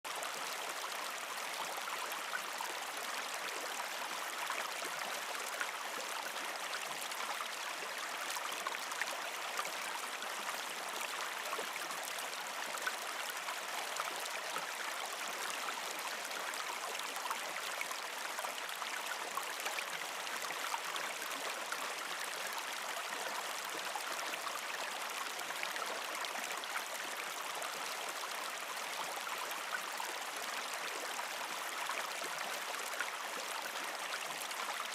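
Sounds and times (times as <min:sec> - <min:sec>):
stream flowing over rocks: 0:00.1 - 0:34.9.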